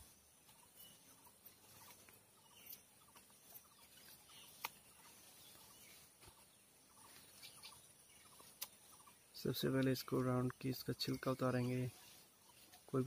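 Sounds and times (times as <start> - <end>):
soft chirps: 0.0 - 13.0.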